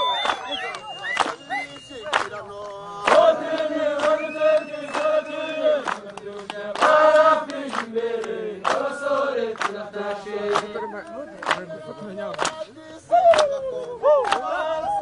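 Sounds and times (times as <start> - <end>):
group of voices chanting: 2.4 - 15.0.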